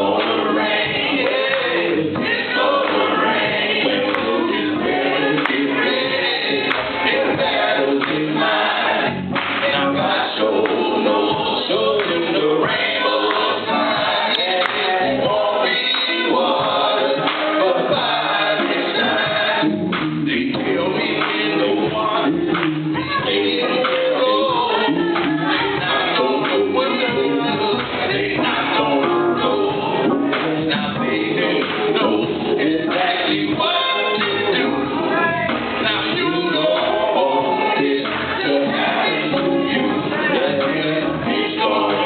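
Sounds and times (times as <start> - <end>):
men singing gospel song: 0.0 - 42.0.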